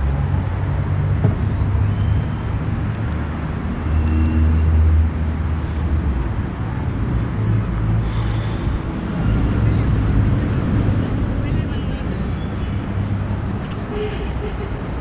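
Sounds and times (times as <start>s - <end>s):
passing vehicles rumbling: 0.0s - 15.0s.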